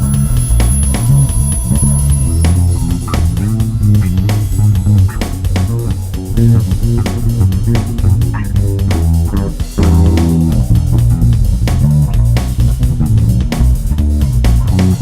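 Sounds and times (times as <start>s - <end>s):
bass guitar plucked notes: 0.0s - 15.0s.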